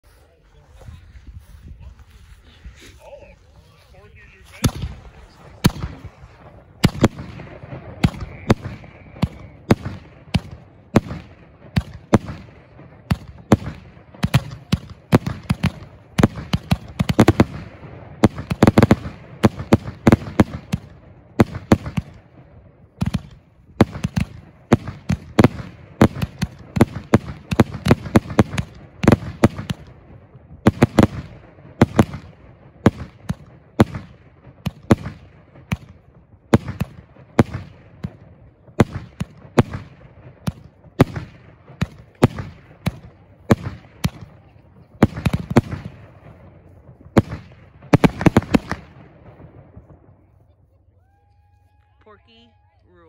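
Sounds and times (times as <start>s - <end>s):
firework shots thumping and banging: 4.6s - 50.0s.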